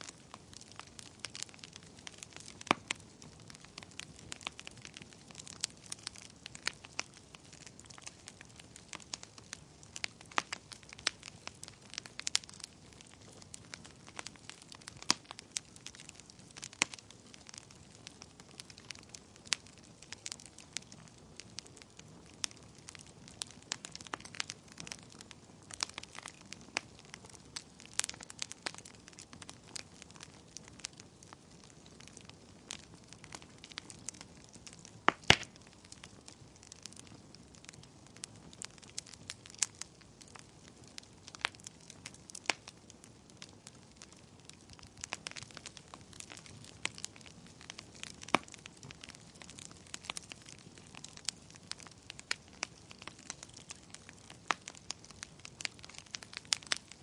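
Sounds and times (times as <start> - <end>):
fire crackling and popping: 0.0 - 57.0
soft hiss of burning: 0.0 - 57.0.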